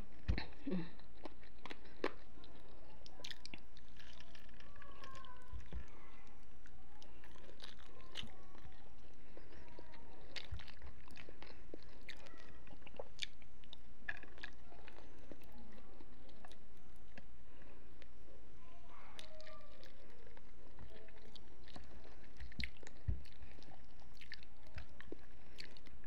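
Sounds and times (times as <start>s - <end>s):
mouth clicks and crunches: 0.0s - 18.4s, 19.1s - 26.0s
person chewing food: 0.0s - 26.0s.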